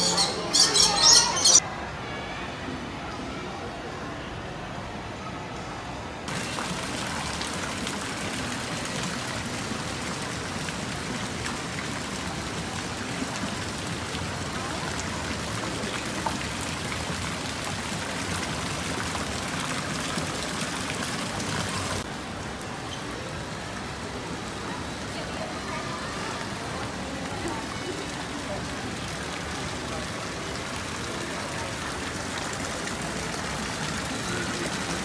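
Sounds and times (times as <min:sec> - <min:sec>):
fountain water splashing: 0:06.2 - 0:35.0.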